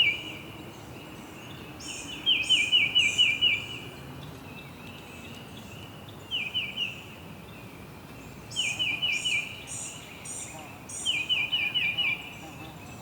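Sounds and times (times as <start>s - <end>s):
background hiss: 0.0s - 13.0s
songbirds chirping: 0.0s - 13.0s.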